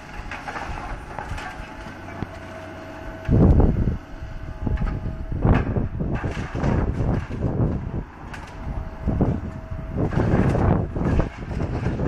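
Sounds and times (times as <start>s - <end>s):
debris crashing: 0.0s - 2.7s, 4.7s - 12.0s
excavator engine hum: 0.0s - 12.0s.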